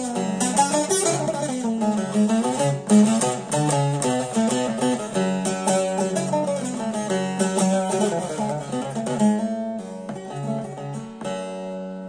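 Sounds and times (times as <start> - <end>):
long-necked lute picked notes: 0.0 - 12.0
lute strum ringing: 0.0 - 12.0.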